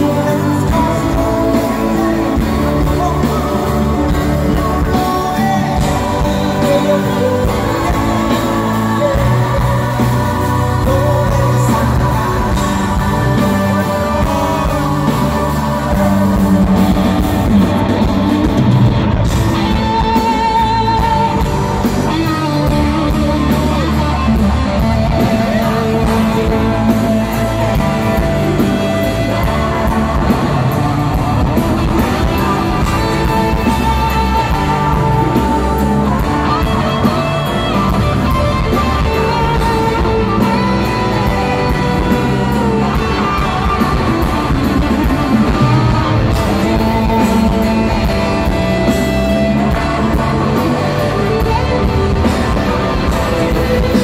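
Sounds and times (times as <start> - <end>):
bass and drums: 0.0 - 54.0
electric guitar lead: 0.0 - 54.0
person singing: 0.0 - 54.0.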